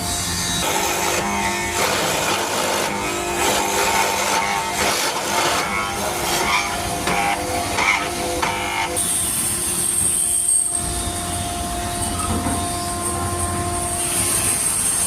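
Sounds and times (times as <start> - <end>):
woodworking power tool whining: 0.0 - 15.0.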